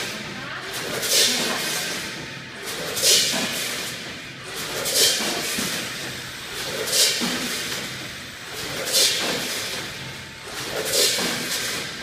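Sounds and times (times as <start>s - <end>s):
bagging machine working: 0.0s - 12.0s.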